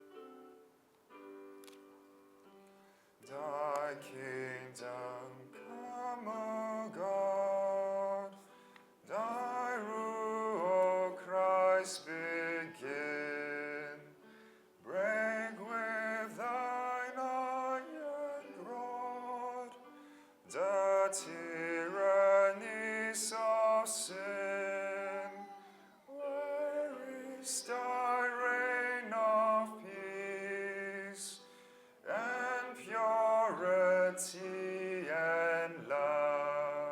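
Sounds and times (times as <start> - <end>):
voices singing a hymn: 3.3 - 14.2, 14.8 - 19.8, 20.5 - 36.9.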